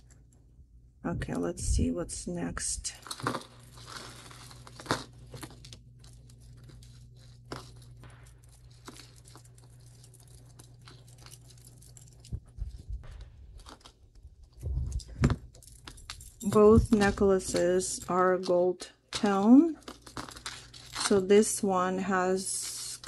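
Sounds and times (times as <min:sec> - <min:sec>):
wrapping rustling and crinkling: 0:02.8 - 0:23.0.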